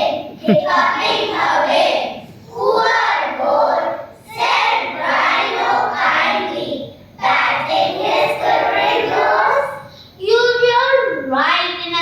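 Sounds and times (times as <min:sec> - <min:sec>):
children chanting in unison: 0:00.0 - 0:09.9.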